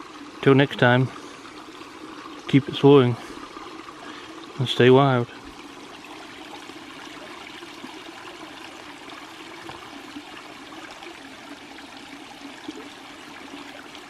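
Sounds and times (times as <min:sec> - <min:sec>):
creek trickling over rocks: 0:00.0 - 0:14.0.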